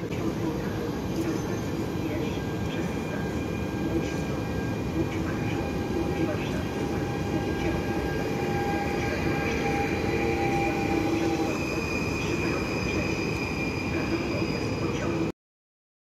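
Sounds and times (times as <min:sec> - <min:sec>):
electric train whine: 0:00.0 - 0:15.3.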